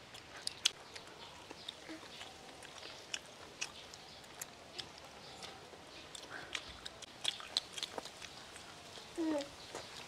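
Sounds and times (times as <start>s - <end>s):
people chewing crisp fried chicken: 0.0s - 10.0s.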